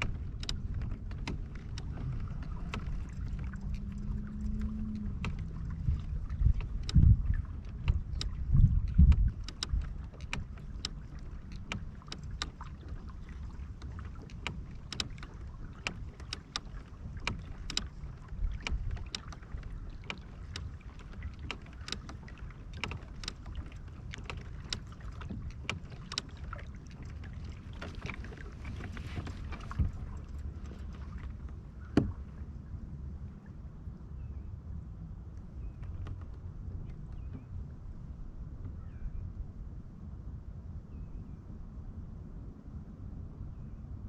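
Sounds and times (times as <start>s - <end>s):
clicks and knocks from kayak: 0.0s - 32.8s, 35.3s - 39.0s
low wind rumble on microphone: 0.0s - 44.0s.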